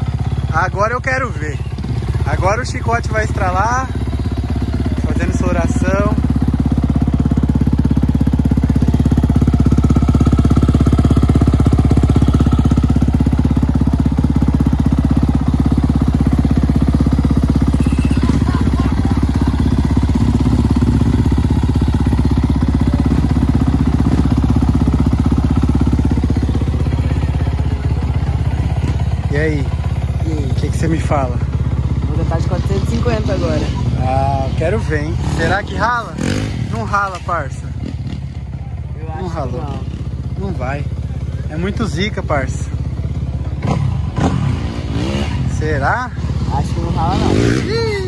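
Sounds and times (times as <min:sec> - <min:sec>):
dirt bike engine idling: 0:00.0 - 0:48.0.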